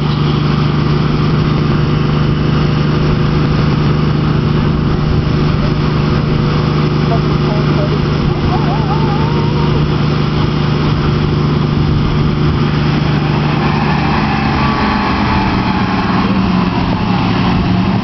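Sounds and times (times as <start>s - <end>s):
vehicle engine running under load: 0.0s - 18.0s.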